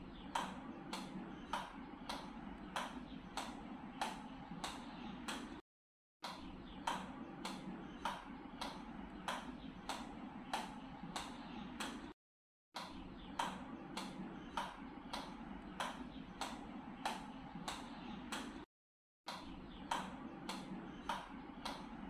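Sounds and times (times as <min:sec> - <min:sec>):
table tennis ball bouncing on paddle: 0:00.2 - 0:05.6, 0:06.2 - 0:12.1, 0:12.8 - 0:18.6, 0:19.3 - 0:22.0.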